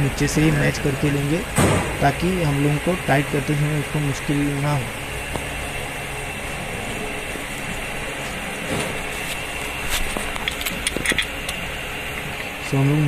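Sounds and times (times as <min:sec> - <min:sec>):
steady workshop hum: 0:00.0 - 0:13.0.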